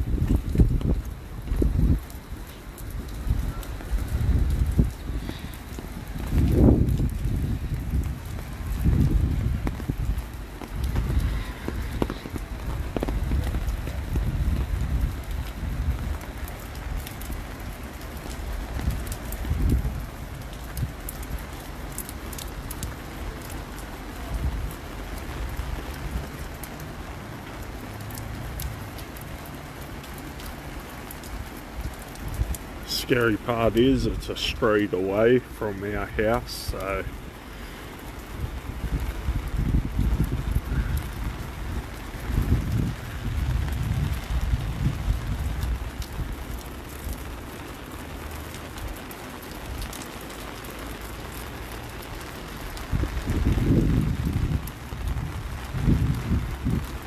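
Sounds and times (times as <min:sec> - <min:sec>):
wind rumble on microphone: 0:00.0 - 0:34.4, 0:36.7 - 0:50.0, 0:51.6 - 0:57.0
steady rain falling: 0:00.0 - 0:57.0.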